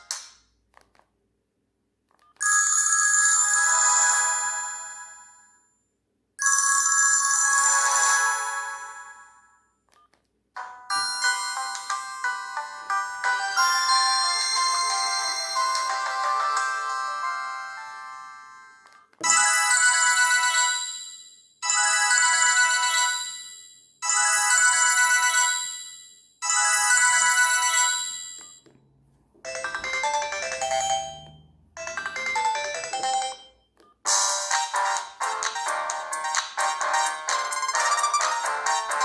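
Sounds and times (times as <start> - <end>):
fast ringtone tune: 2.4 - 5.4, 6.4 - 9.5, 10.6 - 28.6, 29.5 - 39.0
phone ringtone chiming phrase: 2.4 - 5.5, 6.4 - 9.6, 10.6 - 28.6, 29.5 - 39.0
phone ringtone melody: 2.4 - 5.6, 6.4 - 9.6, 10.6 - 28.7, 29.4 - 39.0.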